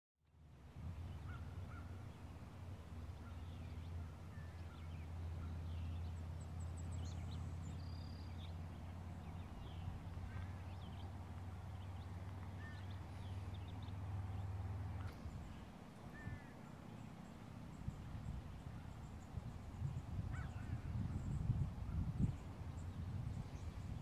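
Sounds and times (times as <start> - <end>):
songbirds chirping: 0.4 - 24.0.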